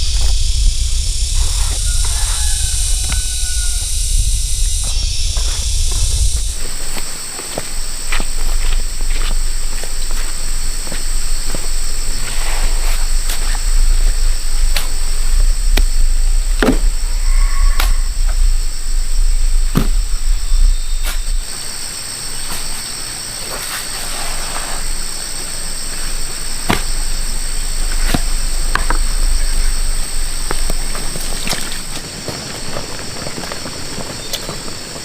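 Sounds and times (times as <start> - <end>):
low rumble: 0.0 - 22.5, 24.8 - 32.0
insects droning: 0.0 - 35.0.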